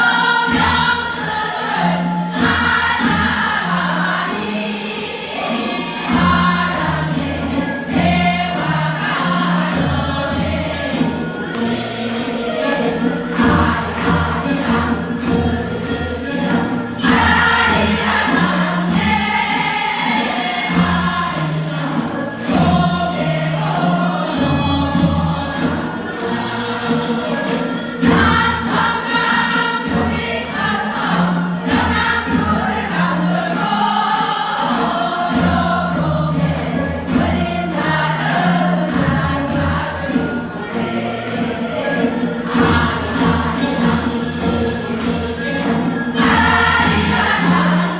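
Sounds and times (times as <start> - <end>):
group of voices singing: 0.0 - 47.9.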